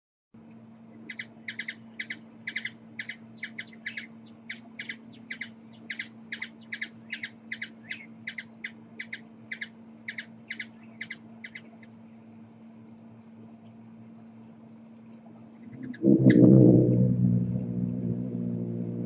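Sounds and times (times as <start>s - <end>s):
steady low hum: 0.4s - 19.0s.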